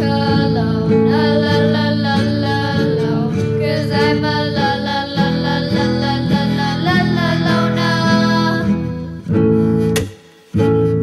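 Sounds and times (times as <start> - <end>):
instrumental song with guitar: 0.0 - 11.0.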